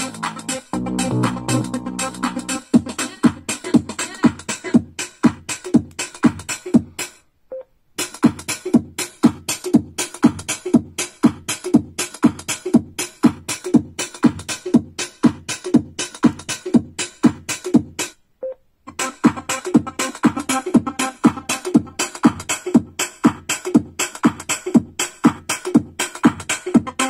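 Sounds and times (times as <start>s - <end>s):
electronic music with kick drums: 0.0s - 7.2s, 8.0s - 18.2s, 18.9s - 27.0s.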